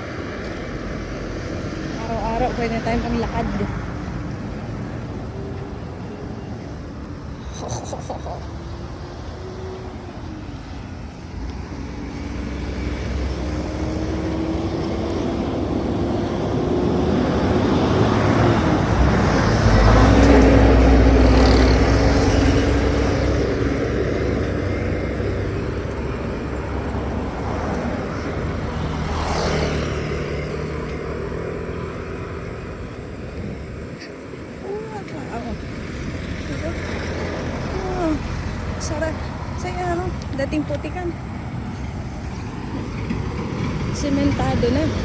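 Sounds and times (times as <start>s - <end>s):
vehicles driving past: 0.0s - 45.0s.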